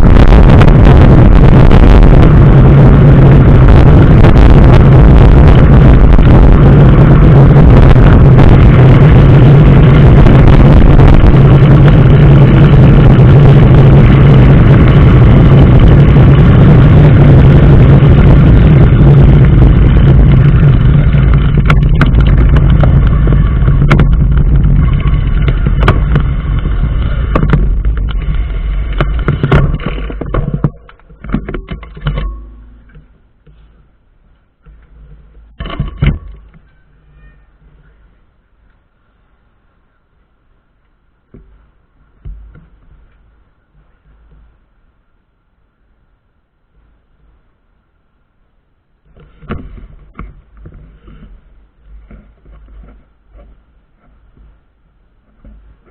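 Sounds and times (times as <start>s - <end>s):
vehicle road and wind noise: 0.0s - 55.9s.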